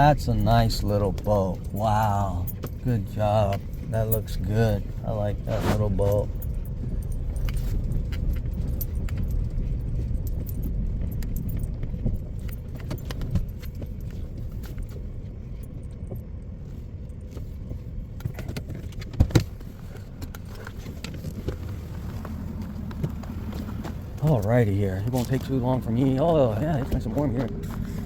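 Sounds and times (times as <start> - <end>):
light jangling clicks: 0.0 - 28.0
truck idling rumble: 0.0 - 28.0.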